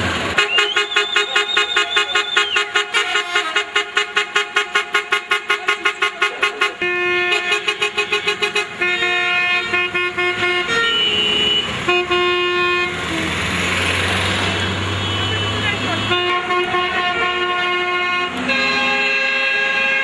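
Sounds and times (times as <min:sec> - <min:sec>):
rushing traffic: 0:00.0 - 0:20.0
truck horns honking: 0:00.0 - 0:20.0.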